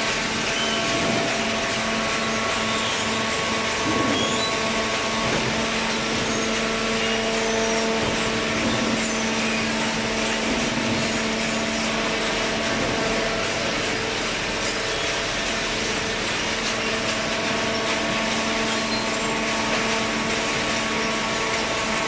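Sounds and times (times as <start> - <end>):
industrial machine drone: 0.0 - 22.0.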